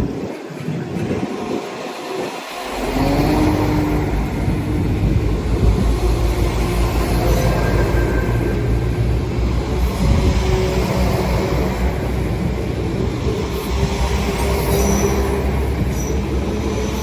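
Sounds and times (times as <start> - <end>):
vehicle engine accelerating: 2.6 - 17.0.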